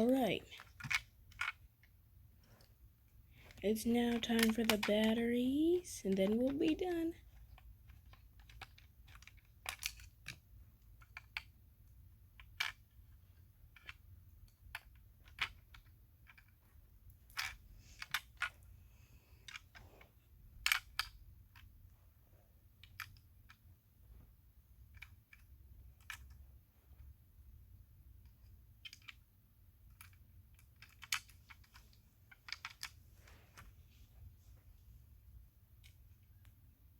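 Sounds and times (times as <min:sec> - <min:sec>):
small clicks of plastic parts: 0:00.5 - 0:21.9, 0:22.7 - 0:27.2, 0:28.1 - 0:33.8, 0:35.7 - 0:36.6.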